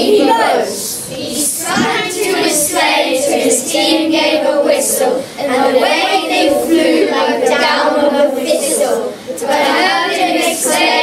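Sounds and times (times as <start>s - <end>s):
children reciting in unison: 0.0s - 11.0s.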